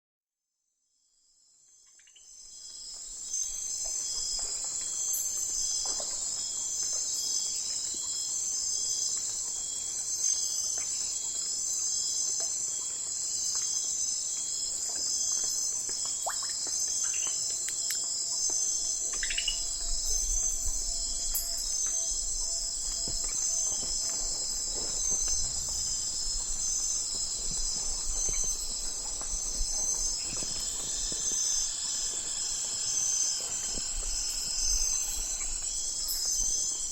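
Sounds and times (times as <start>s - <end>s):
crickets trilling: 1.8s - 36.9s.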